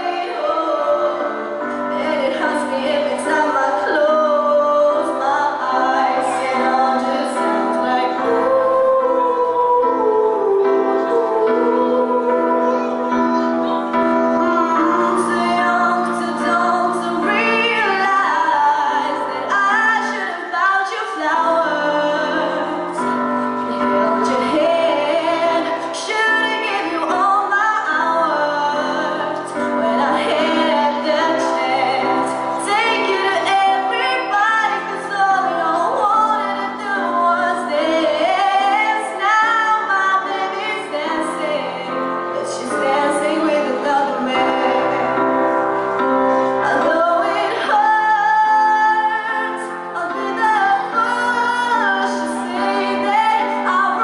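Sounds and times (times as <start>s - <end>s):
instrumental accompaniment: 0.0s - 54.0s
woman singing: 0.0s - 54.0s.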